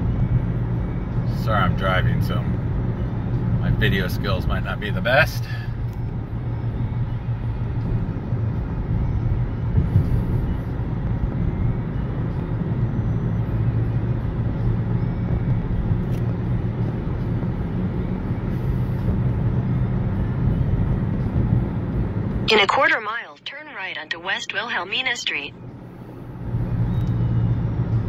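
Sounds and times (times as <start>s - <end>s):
car road and engine drone: 0.0s - 28.0s.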